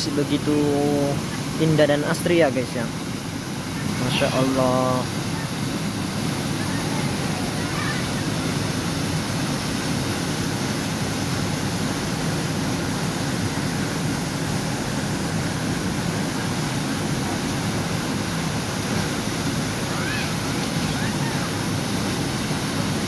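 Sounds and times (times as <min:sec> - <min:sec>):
stream running over rocks: 0:00.0 - 0:23.0
waterfall rushing: 0:00.0 - 0:23.0.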